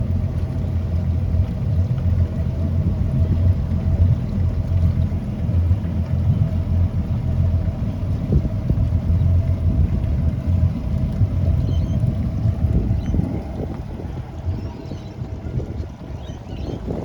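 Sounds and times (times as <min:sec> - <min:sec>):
outboard engines running: 0:00.0 - 0:17.0.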